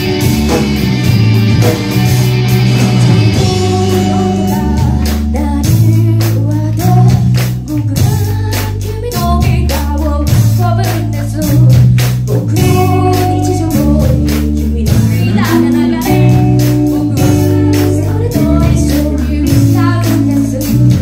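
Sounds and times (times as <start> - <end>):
drum kit beat: 0.0 - 21.0
electric guitar: 0.0 - 21.0
low bass line: 0.0 - 21.0
girl singing lead vocal: 3.2 - 21.0.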